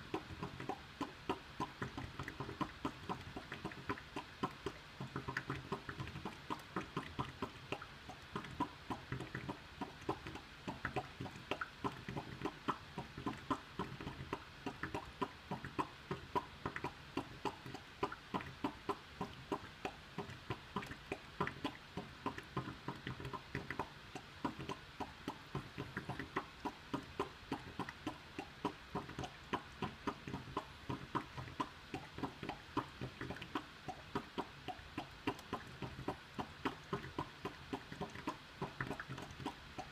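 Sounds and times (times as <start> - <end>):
air conditioner popping clicks: 0.0 - 39.9.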